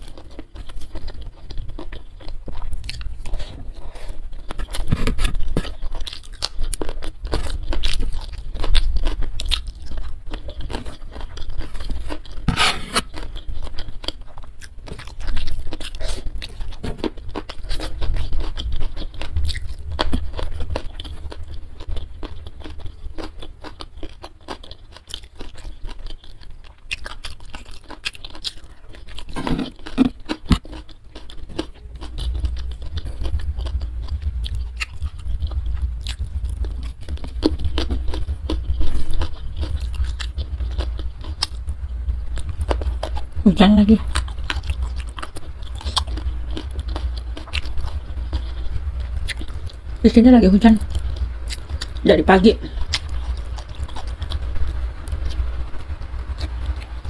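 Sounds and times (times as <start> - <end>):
chewing with mouth clicks: 0.0 - 57.0
fingers scraping through food: 0.0 - 57.0.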